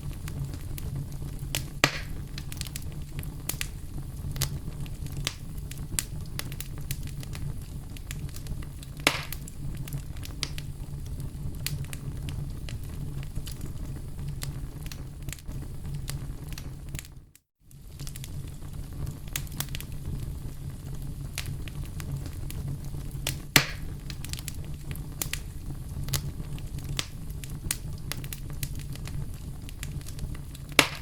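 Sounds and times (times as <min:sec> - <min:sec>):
campfire crackling: 0:00.0 - 0:31.0
fire popping: 0:00.0 - 0:31.0.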